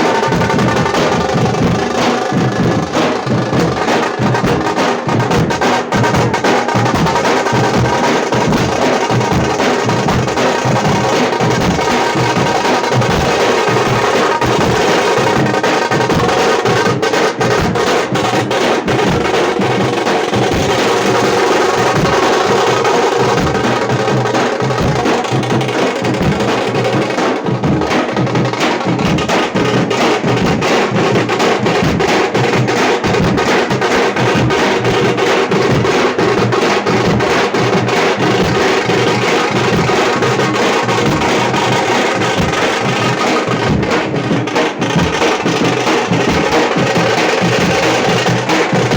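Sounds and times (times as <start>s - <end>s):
frame drum beaten with sticks: 0.0s - 48.9s.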